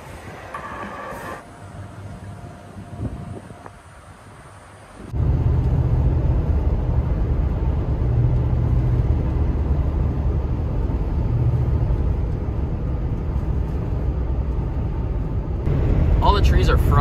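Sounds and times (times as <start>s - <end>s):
engine and tyre drone: 0.0s - 17.0s.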